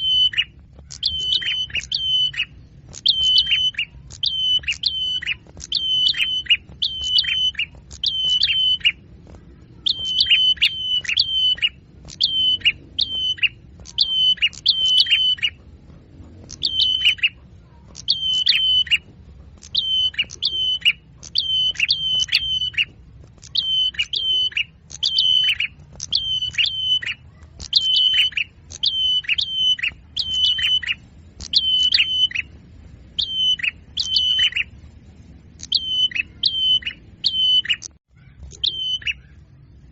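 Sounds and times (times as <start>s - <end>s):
songbird chirps: 0.0s - 39.9s.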